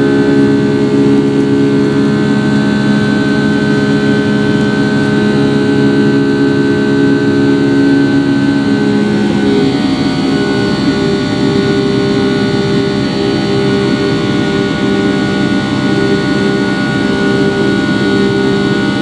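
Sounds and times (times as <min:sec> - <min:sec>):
jet engine drone with buzzing tones: 0:00.0 - 0:19.0.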